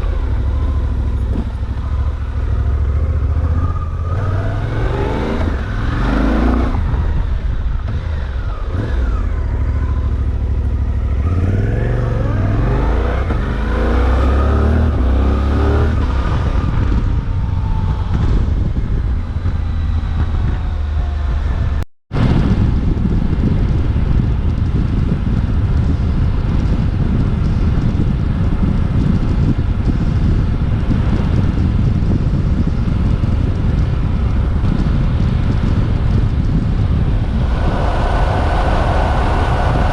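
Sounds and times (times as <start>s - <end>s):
motorcycle engine revving: 0.0s - 21.8s, 24.1s - 39.9s
wind rushing on microphone: 0.0s - 39.9s.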